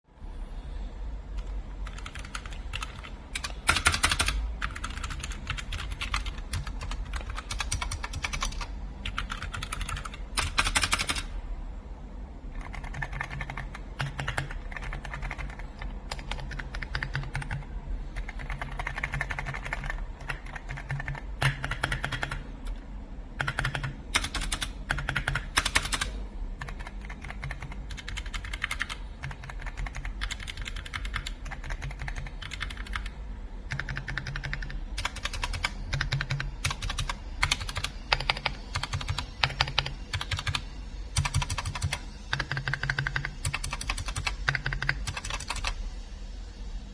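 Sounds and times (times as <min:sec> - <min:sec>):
mechanical keyboard typing: 0:01.4 - 0:11.3, 0:12.5 - 0:17.6, 0:18.2 - 0:22.8, 0:23.4 - 0:33.1, 0:33.7 - 0:40.6, 0:41.2 - 0:45.8.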